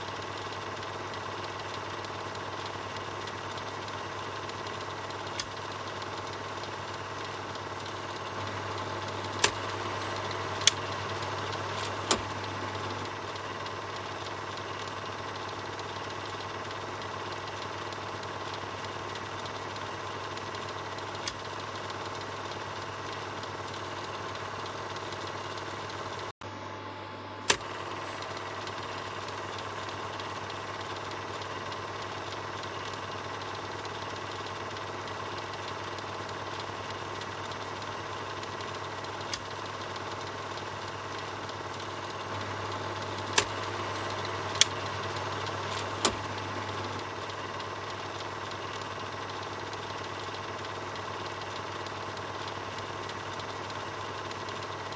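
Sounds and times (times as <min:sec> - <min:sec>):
film projector whirring: 0:00.0 - 0:54.9
projector clicks: 0:00.3 - 0:26.3, 0:27.4 - 0:54.9.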